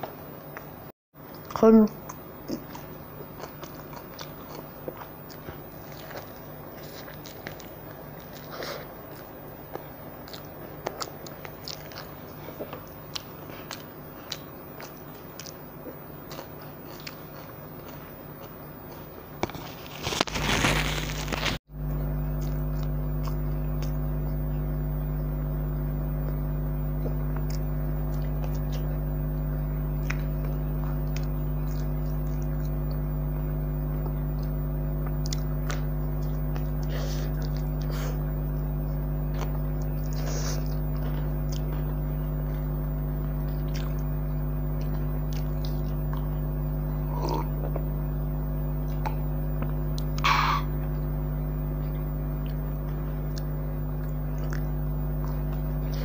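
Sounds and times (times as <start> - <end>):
chewing soft bun: 0.0 - 56.0
low hum: 0.0 - 56.0.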